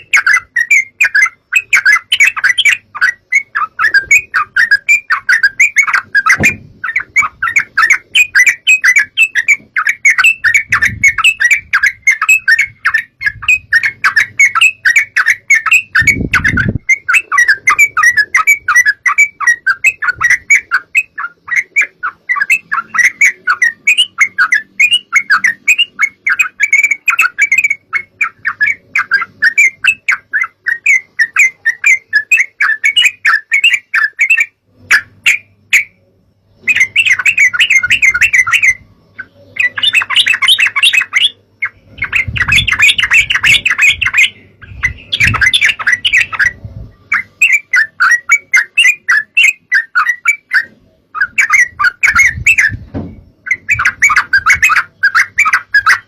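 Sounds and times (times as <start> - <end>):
bird chattering bubbling notes: 0.0 - 36.0, 36.6 - 56.0.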